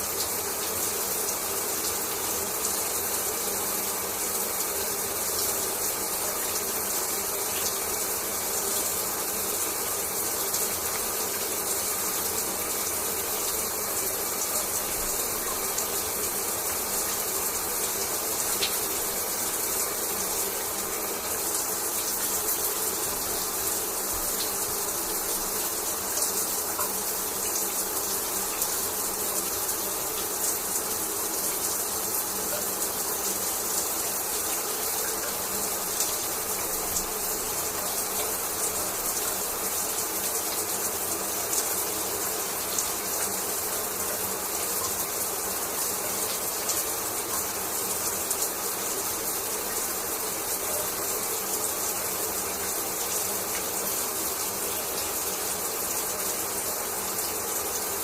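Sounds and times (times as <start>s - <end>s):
shower water running: 0.0s - 58.0s.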